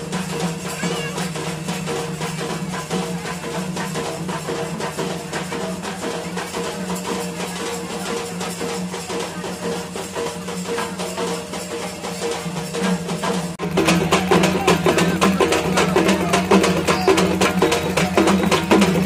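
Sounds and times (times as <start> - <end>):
fast dense percussion music: 0.0 - 19.0.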